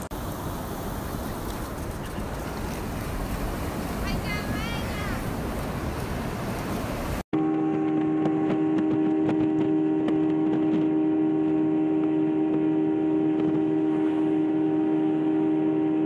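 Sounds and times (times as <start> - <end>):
boat motor droning: 0.0 - 16.0.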